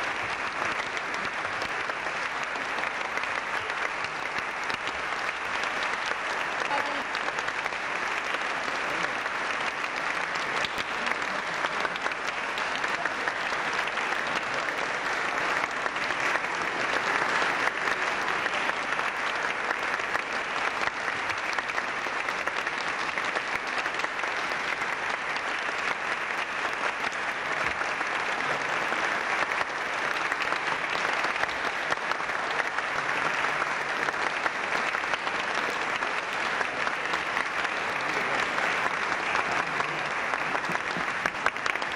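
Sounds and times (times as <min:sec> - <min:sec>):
crowd applauding: 0:00.0 - 0:41.9.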